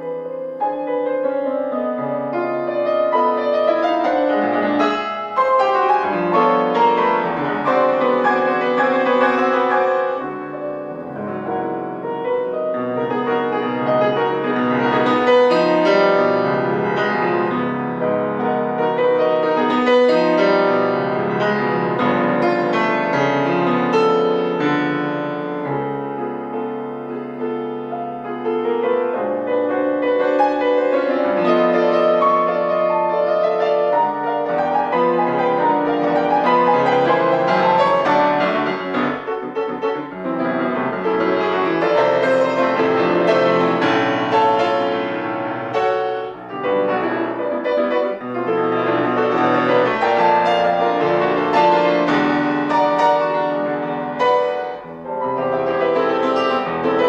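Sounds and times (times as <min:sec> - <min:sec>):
solo piano classical music: 0:00.0 - 0:57.0.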